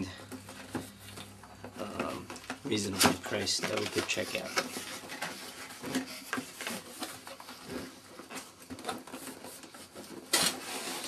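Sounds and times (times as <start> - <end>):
packaging scrape: 0.0 - 11.0.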